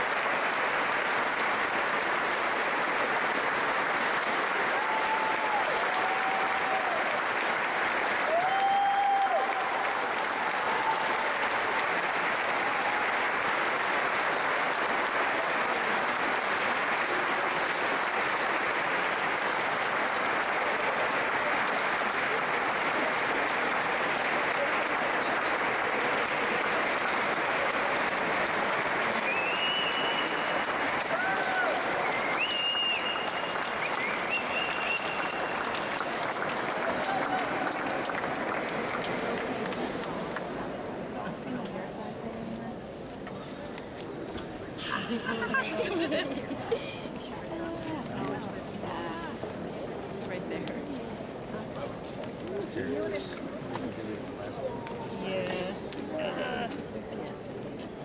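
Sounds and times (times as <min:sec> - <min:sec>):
audience applauding: 0:00.0 - 0:41.6, 0:44.4 - 0:49.6.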